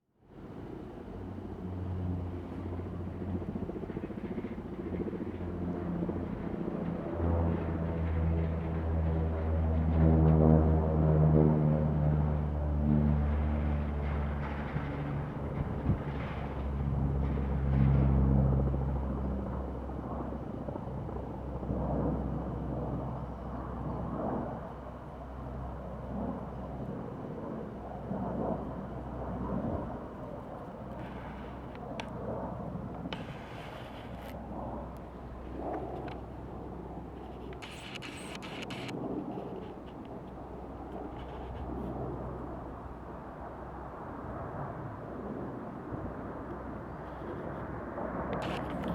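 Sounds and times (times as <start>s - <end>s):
aircraft engines droning: 0.2s - 48.9s.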